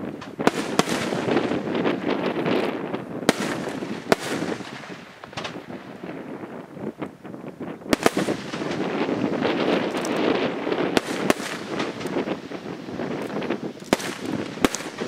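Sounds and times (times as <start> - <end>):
sharp firework reports: 0.0 - 6.5, 7.8 - 15.0
firework crackling: 0.0 - 15.0.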